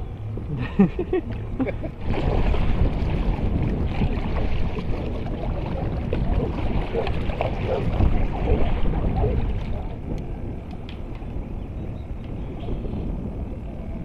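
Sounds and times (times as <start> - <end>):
water splashing along a hull: 0.0 - 14.0
wind buffeting microphone: 0.0 - 14.0.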